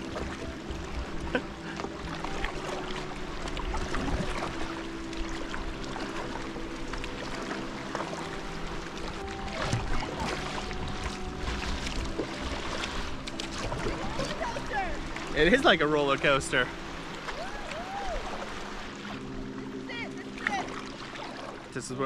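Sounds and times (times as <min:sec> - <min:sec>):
paddle strokes: 0:00.0 - 0:21.9
motorboat engine drone: 0:00.0 - 0:22.0
water slapping against boat: 0:00.0 - 0:22.0.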